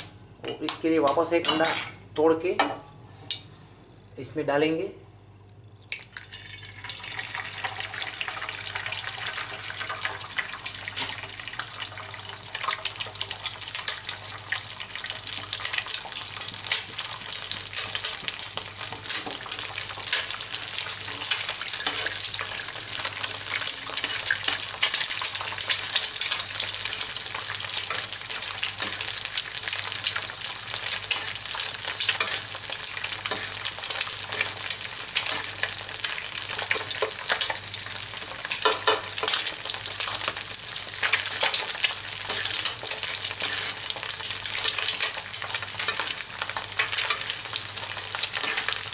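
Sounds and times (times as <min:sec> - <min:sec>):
egg sizzling in a frying pan: 0:05.7 - 0:48.9.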